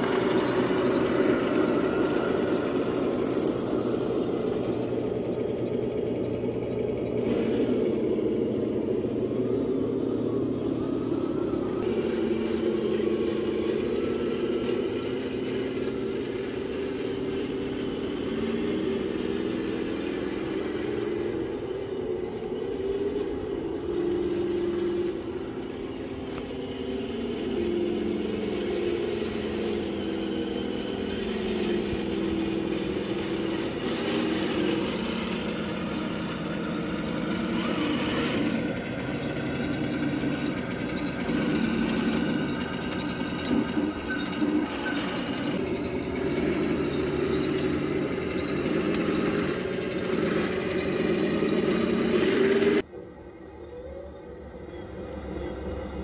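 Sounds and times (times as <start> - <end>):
toy tank motor hum: 0.0 - 52.9.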